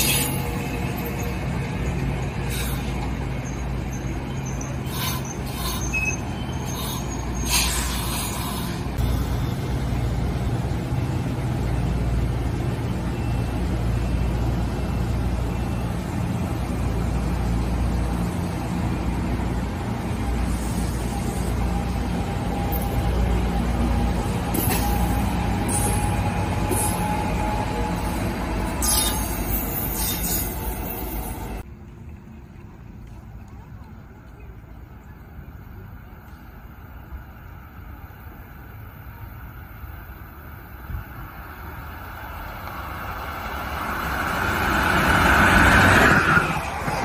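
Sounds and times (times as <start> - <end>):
train rumbling past: 0.0 - 47.0.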